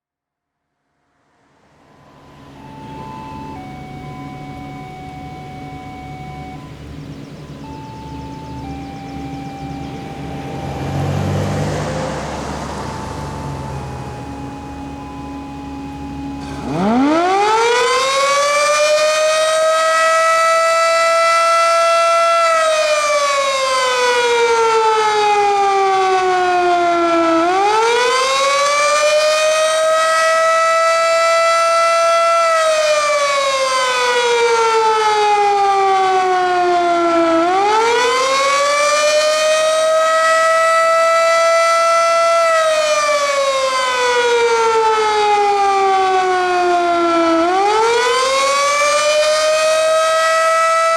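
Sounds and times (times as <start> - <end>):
warning siren rising and falling: 1.6 - 50.9.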